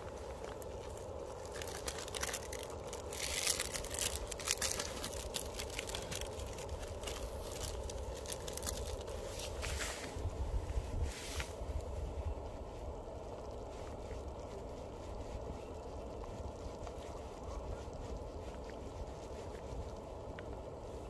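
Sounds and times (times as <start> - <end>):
rice and broth simmering: 0.0 - 10.2, 11.3 - 20.9.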